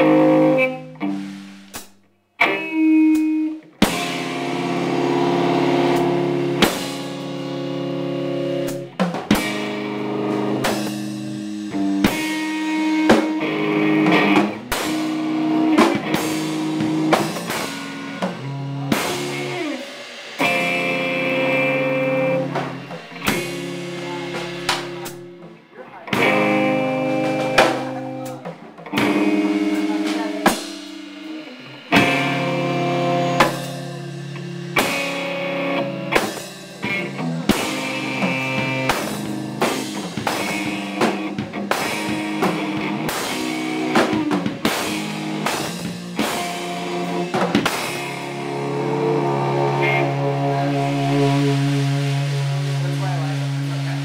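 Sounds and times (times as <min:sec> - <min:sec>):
drum kit: 0:00.0 - 0:54.0
rock guitar chords: 0:00.0 - 0:54.0.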